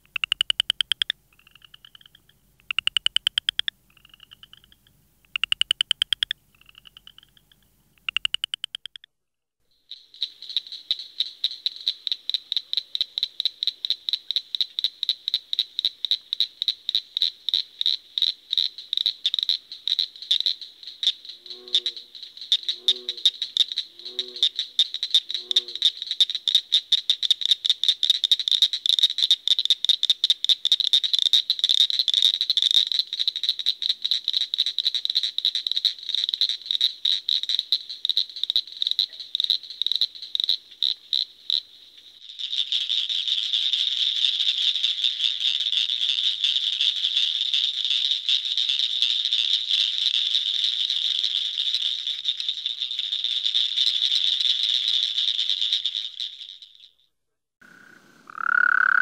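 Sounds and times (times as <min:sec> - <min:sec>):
frog clicking calls: 0:00.0 - 0:09.1, 0:09.8 - 0:57.0, 0:57.6 - 0:59.0.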